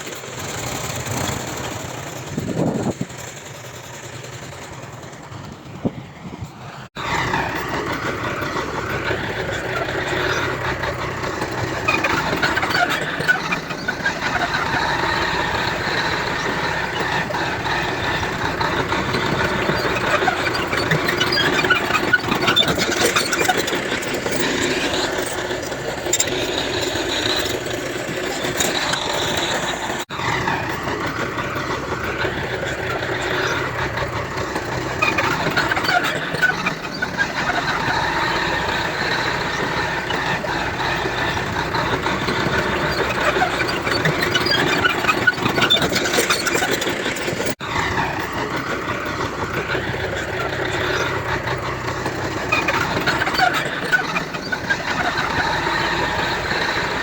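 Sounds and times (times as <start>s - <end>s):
bulldozer diesel engine under load: 0.0s - 57.0s
crawler tracks squealing: 0.0s - 57.0s.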